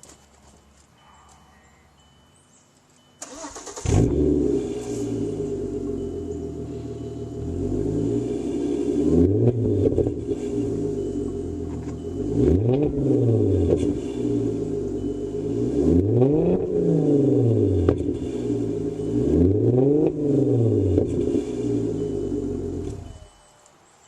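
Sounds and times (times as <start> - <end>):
car engine idling and revving: 3.2 - 23.3.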